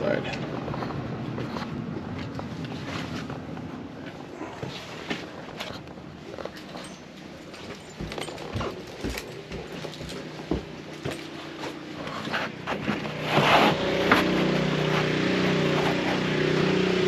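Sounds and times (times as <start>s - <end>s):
footsteps: 0.2s - 16.2s.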